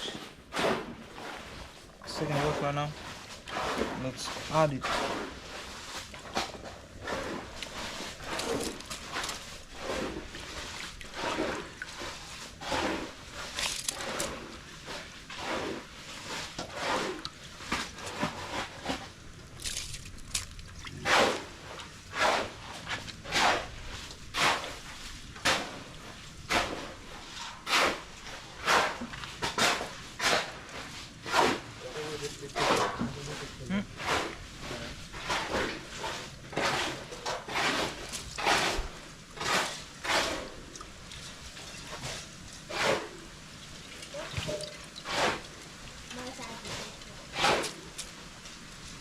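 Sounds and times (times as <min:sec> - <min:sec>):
rice swished in water: 0:00.0 - 0:49.0.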